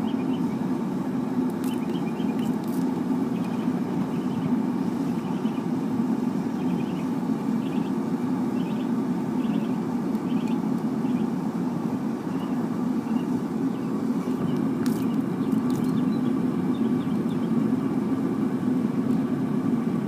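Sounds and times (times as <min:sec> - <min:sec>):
burner blower and flame rushing: 0:00.0 - 0:20.0.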